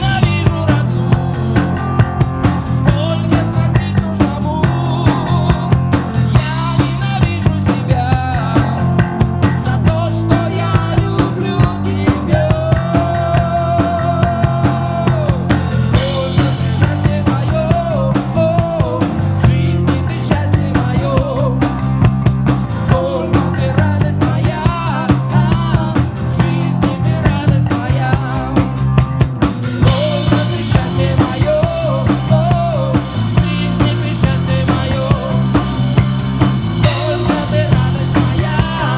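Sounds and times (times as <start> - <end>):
bass guitar: 0.0 - 38.9
drum kit beat: 0.0 - 38.9.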